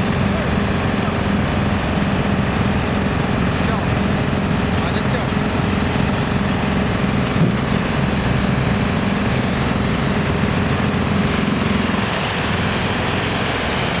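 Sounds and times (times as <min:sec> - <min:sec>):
engine hum: 0:00.0 - 0:14.0
wood chipper running: 0:00.0 - 0:14.0.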